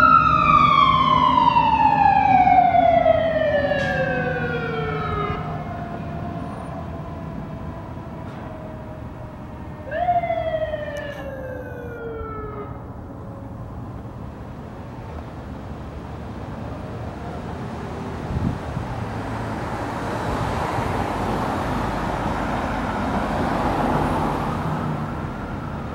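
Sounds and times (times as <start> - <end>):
emergency vehicle siren: 0.0 - 25.9
engine and road rumble: 0.0 - 25.9.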